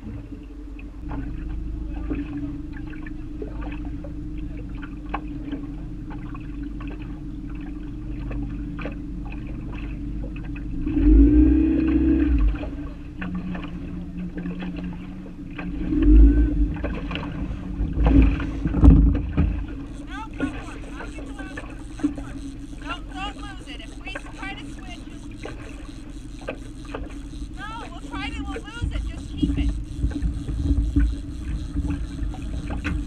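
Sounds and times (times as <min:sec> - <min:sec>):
boat motor humming: 0:00.0 - 0:33.0
low rumbling noise: 0:00.0 - 0:33.0.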